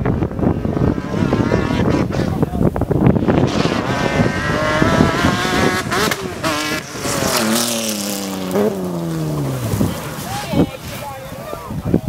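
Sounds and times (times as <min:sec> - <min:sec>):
racing car engine revving: 0:00.4 - 0:10.6.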